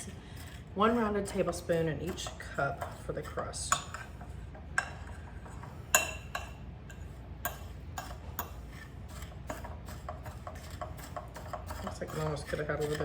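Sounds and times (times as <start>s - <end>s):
fork scraping in a bowl: 0.0s - 13.0s.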